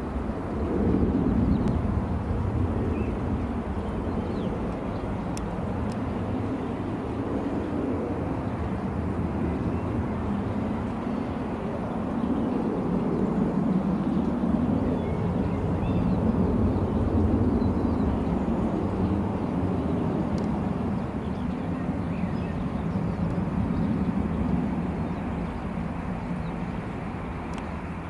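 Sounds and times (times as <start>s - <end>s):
jet engines low rumble: 0.0s - 28.0s.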